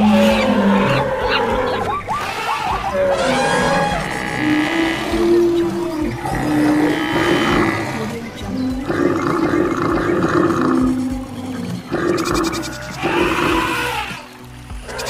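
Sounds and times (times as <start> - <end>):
long animal calls: 0.0 - 15.0.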